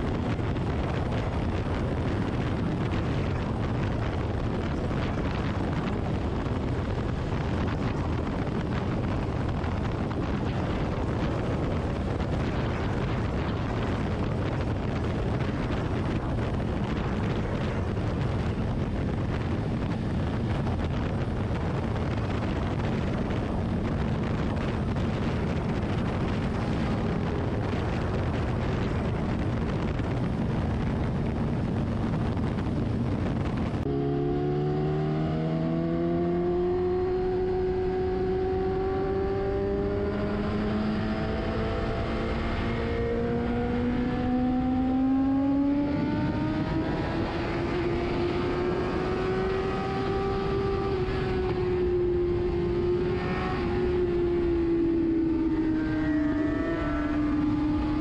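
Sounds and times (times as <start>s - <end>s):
wind rush: 0.0s - 58.0s.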